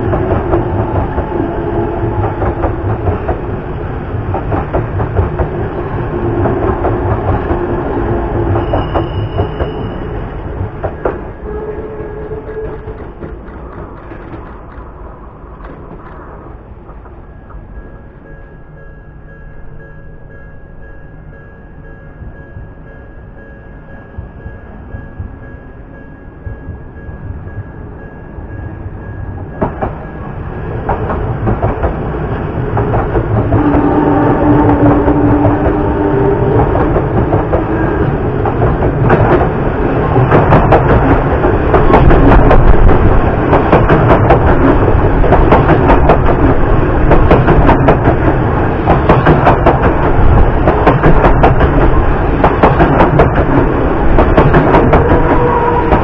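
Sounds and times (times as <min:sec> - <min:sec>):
electric train passing: 0:00.0 - 0:56.0.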